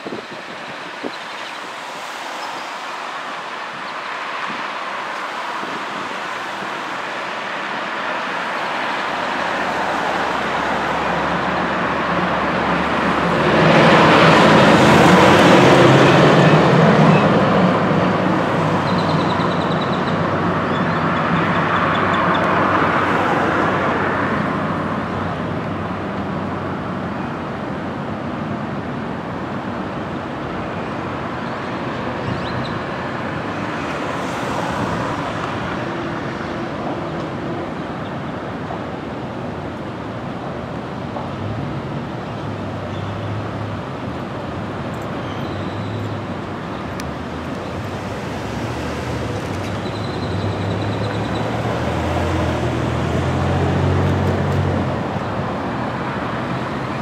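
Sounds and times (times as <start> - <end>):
city street traffic: 0.0 - 57.0.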